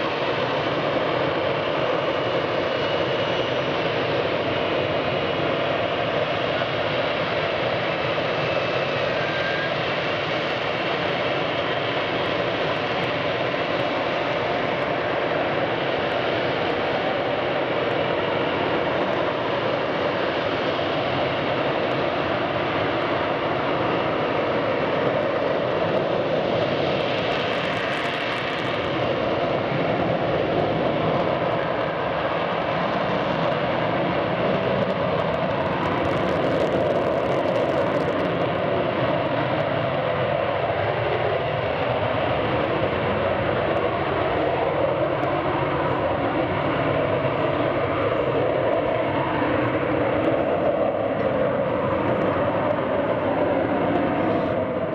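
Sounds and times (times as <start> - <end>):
jet engine hovering: 0.0 - 54.9.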